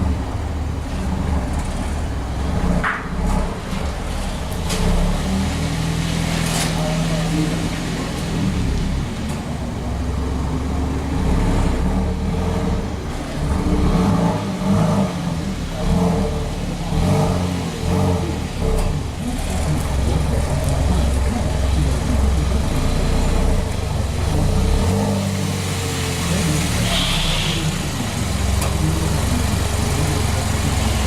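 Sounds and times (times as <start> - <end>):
car engine humming: 0.0 - 31.0.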